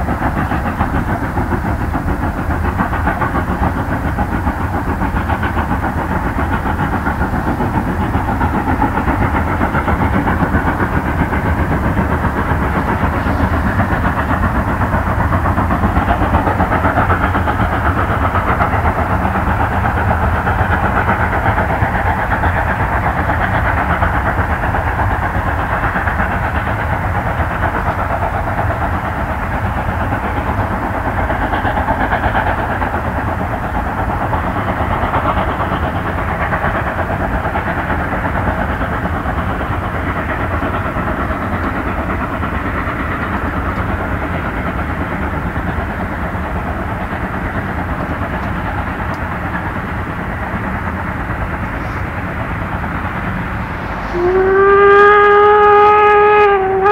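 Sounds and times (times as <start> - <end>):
rail running noise: 0.0 - 56.9
steam locomotive exhaust: 0.0 - 56.9.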